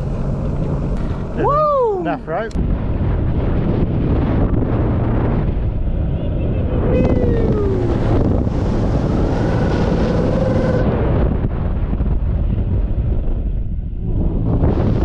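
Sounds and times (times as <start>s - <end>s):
jet ski running: 0.0s - 15.0s
wind buffeting microphone: 0.0s - 15.0s.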